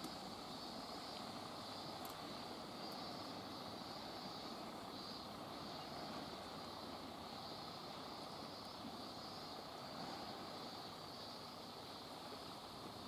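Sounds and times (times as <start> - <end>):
high hiss: 0.0 - 13.0.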